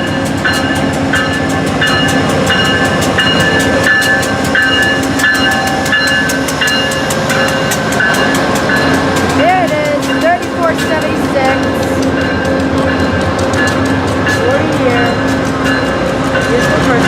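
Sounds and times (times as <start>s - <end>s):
railroad crossing bell ringing: 0.0s - 17.0s
train coaches rolling past: 0.0s - 17.0s.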